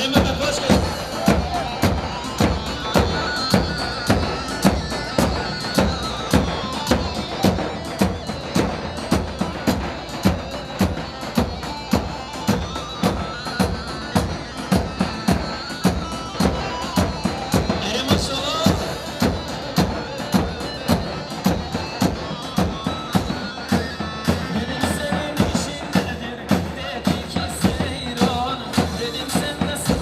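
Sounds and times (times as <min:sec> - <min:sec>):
reedy wind instrument melody: 0:00.0 - 0:26.5
heavy drum beat: 0:00.0 - 0:30.0.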